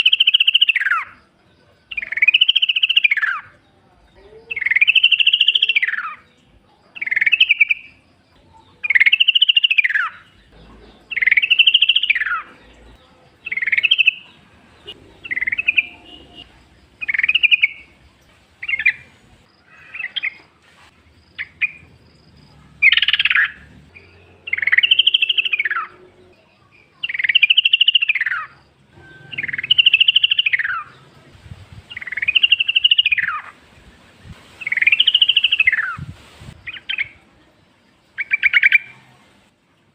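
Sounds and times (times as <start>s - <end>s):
bulbul singing: 0.0s - 20.5s, 21.2s - 33.6s, 34.2s - 39.0s.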